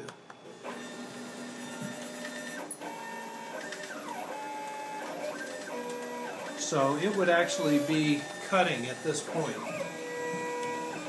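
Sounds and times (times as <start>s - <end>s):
stepper motors whining: 0.5s - 11.0s.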